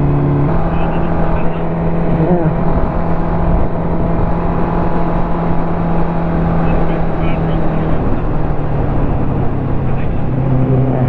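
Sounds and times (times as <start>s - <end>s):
motorcycle engine running: 0.0s - 11.0s
rushing wind noise: 0.0s - 11.0s.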